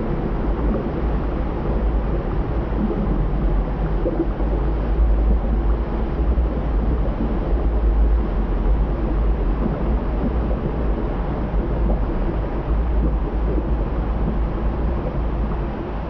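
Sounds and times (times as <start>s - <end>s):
deep volcanic rumble: 0.0s - 16.0s.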